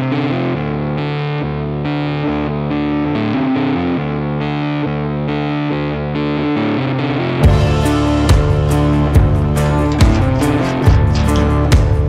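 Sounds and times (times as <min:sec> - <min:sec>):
distorted electric guitar chords: 0:00.0 - 0:12.0.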